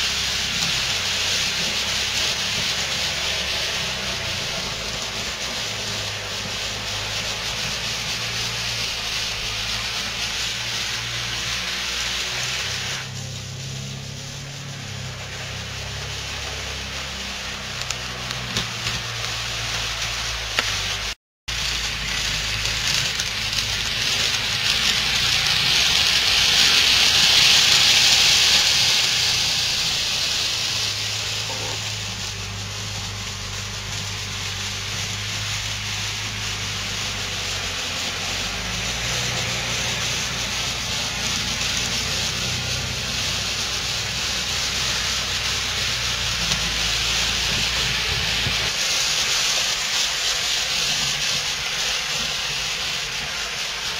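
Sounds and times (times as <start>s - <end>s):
low motor hum: 0.0s - 53.9s
model train wheels hissing on rails: 0.0s - 53.9s.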